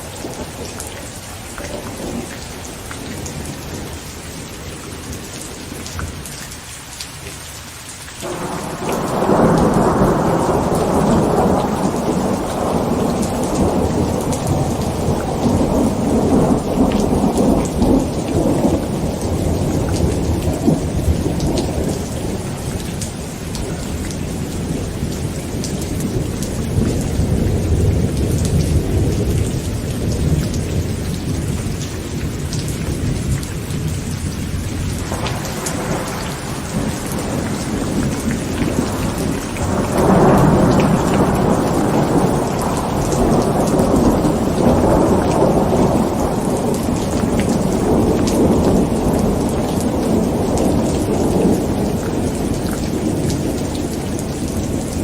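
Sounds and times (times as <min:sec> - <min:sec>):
thunder rumbling: 0:00.0 - 0:06.3, 0:08.2 - 0:55.0
heavy rain drumming on a tent: 0:00.0 - 0:55.0.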